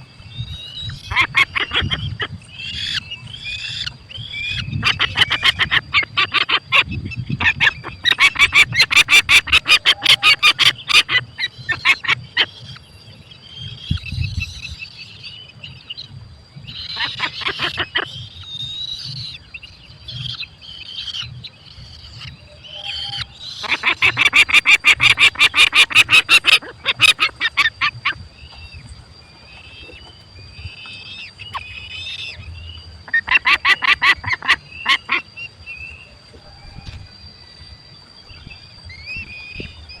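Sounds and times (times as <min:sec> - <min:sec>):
falcons calling: 0:00.0 - 0:37.3
soft chirping: 0:00.0 - 0:40.0.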